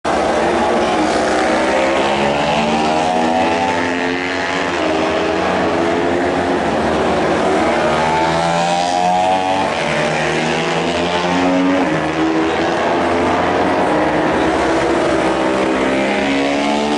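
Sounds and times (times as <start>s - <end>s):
racing motorcycle engines: 0.1s - 16.9s.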